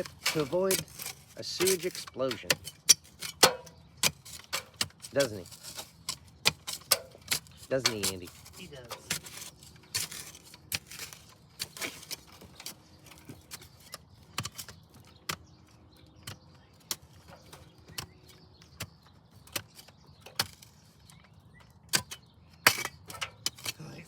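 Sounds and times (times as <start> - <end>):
shovel clinking in soil: 0.0 - 14.8, 16.9 - 24.0.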